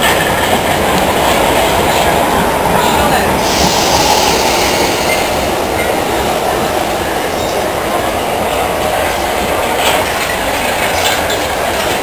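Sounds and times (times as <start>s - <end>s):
wheels clattering over rail joints: 0.0s - 3.8s, 5.0s - 12.0s
electric train passing: 0.0s - 12.0s.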